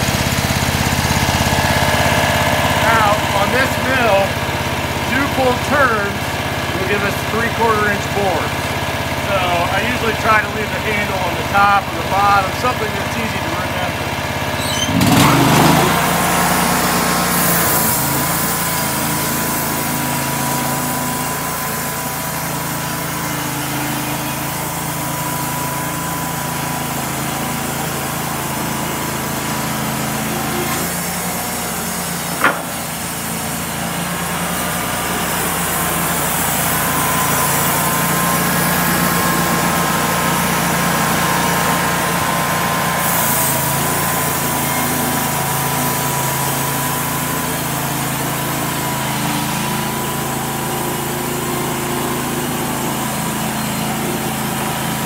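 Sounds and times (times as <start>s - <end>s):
sawmill engine at high throttle: 0.0s - 55.0s.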